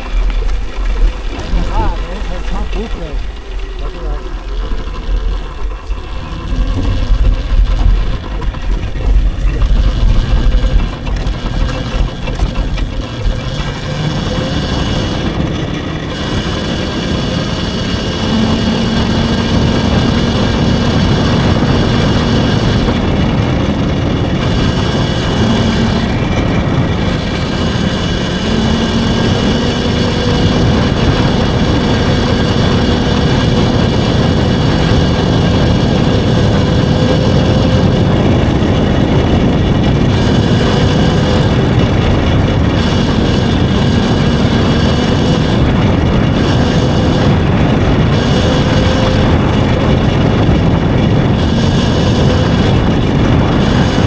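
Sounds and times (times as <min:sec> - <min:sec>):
riding noise rush: 0:00.0 - 0:54.0
wind buffeting microphone: 0:00.0 - 0:54.0.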